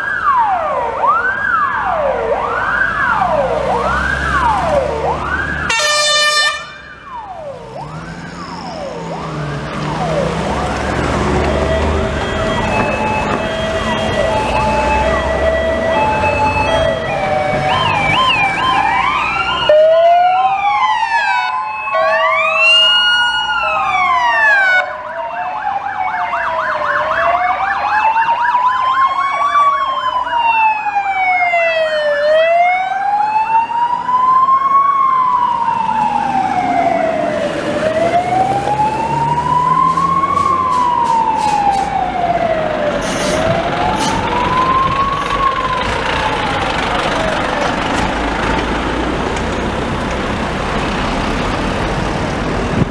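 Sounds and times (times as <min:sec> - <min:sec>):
passing vehicles rumbling: 0:00.0 - 0:52.9
police sirens wailing: 0:00.0 - 0:52.9.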